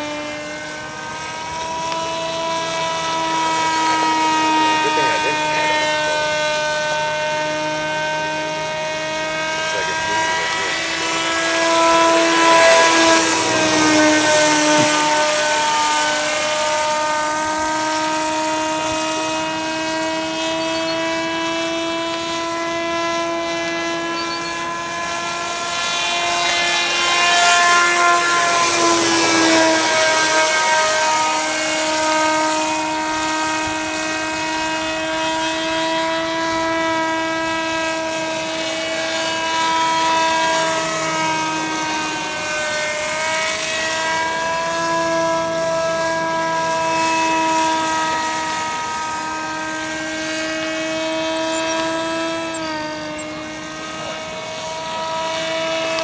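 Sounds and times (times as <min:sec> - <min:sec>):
model aircraft motor buzzing: 0:00.0 - 0:56.0.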